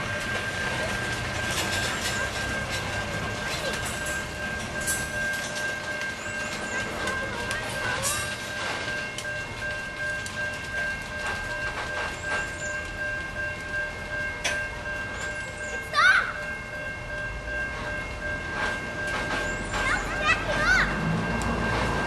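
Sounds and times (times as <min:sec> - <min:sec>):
high ringing tone: 0:00.0 - 0:20.4.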